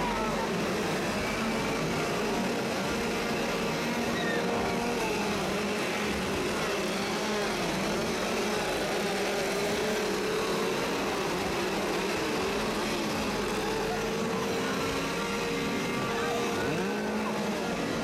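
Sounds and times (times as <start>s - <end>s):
chainsaw engines revving: 0.0s - 18.0s
crowd chatter: 0.0s - 18.0s.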